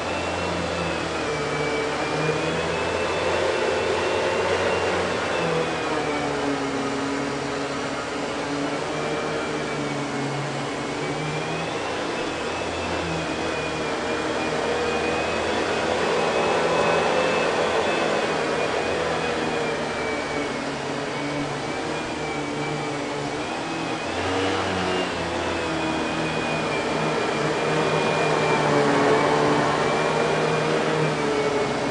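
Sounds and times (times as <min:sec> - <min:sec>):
vacuum cleaner running: 0:00.0 - 0:31.9.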